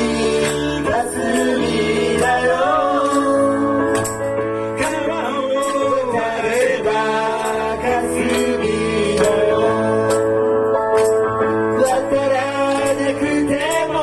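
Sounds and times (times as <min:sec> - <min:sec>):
electronic keyboard chords: 0:00.0 - 0:14.0
gliding keyboard melody: 0:00.0 - 0:14.0.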